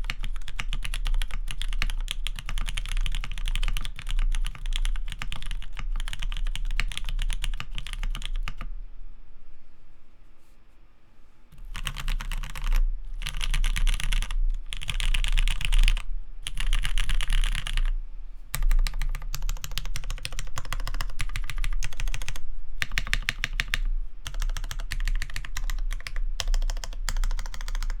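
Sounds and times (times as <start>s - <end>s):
fast typing on mechanical keyboard: 0.0s - 8.7s, 11.6s - 18.0s, 18.6s - 28.0s.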